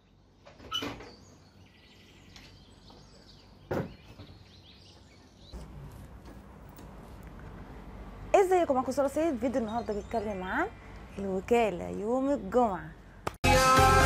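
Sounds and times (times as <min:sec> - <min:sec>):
birds chirping: 0:00.0 - 0:05.8, 0:07.5 - 0:13.1.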